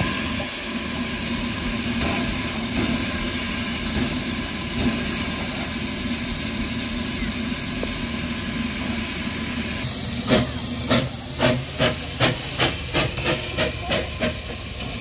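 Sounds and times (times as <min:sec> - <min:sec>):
steam locomotive exhaust chuffs: 0:00.0 - 0:15.0
steam locomotive hissing: 0:00.0 - 0:15.0.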